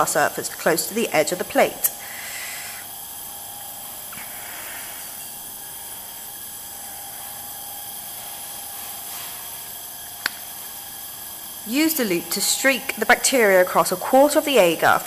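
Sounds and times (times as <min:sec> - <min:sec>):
bunsen burner flame hissing: 0:00.0 - 0:15.0.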